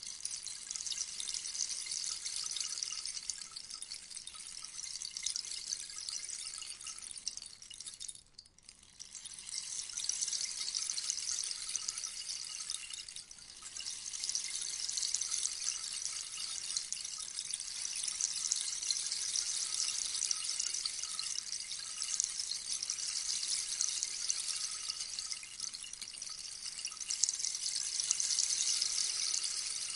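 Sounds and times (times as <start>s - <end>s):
rainstick pattering: 0.0s - 29.9s.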